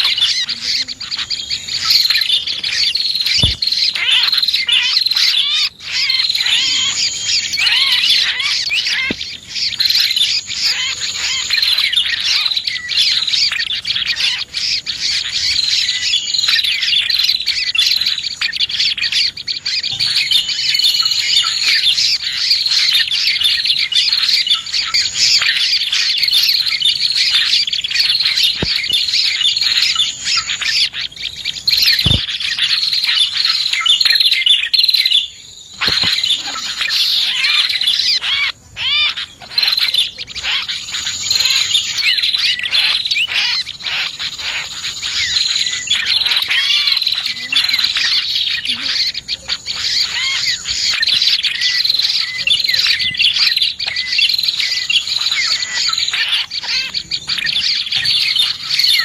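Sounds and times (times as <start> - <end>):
small songbirds chirping and trilling: 0.0 - 59.0.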